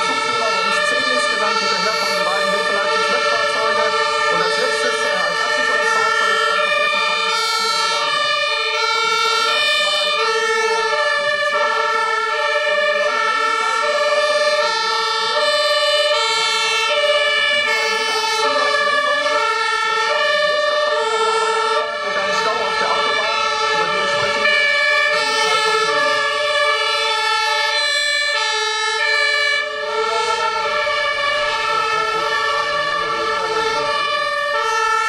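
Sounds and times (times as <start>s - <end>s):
two-tone fire engine sirens: 0.0s - 35.0s.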